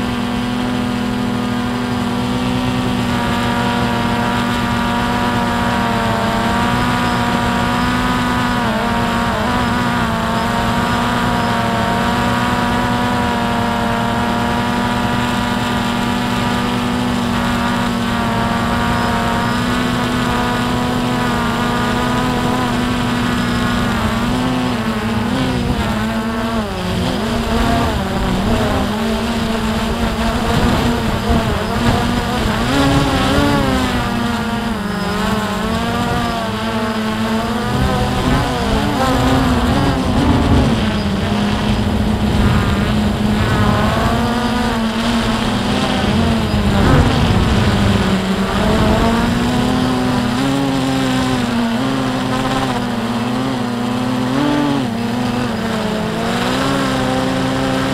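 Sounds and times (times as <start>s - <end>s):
drone propellers buzzing: 0.0s - 57.9s.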